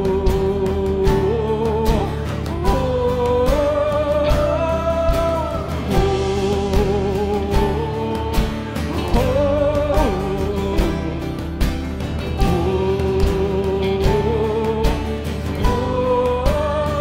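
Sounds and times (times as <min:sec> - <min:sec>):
held wordless vocal notes: 0:00.0 - 0:17.0
worship band music: 0:00.0 - 0:17.0.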